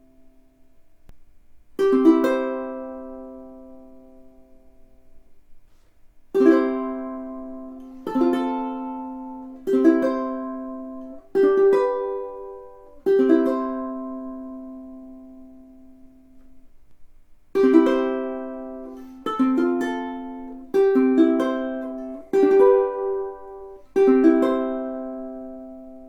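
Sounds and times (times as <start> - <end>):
ukulele chords strummed: 1.8 - 26.0.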